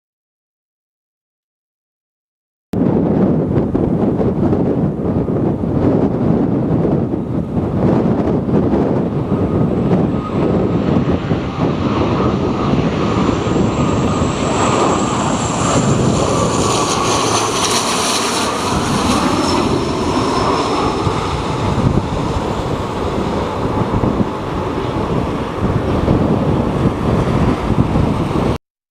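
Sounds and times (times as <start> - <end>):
jet airliner passing overhead: 2.8 - 28.6
wind buffeting microphone: 2.8 - 28.6.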